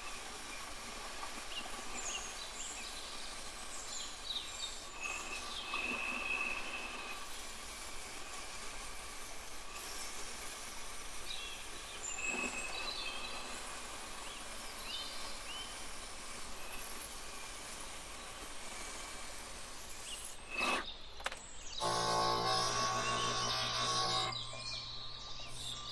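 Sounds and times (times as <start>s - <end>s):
faint motor whine: 0.0s - 25.9s
glass grinder grinding glass: 0.0s - 25.9s.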